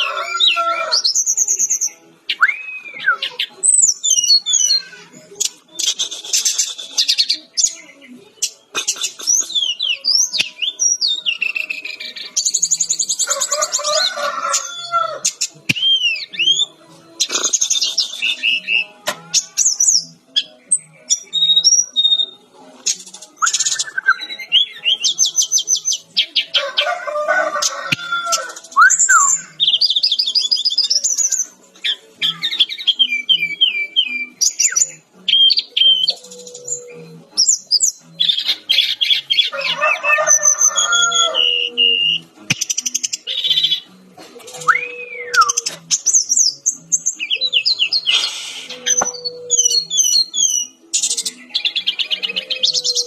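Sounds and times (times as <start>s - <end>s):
flycatcher singing: 0.0s - 26.7s, 27.6s - 39.5s, 40.2s - 53.0s.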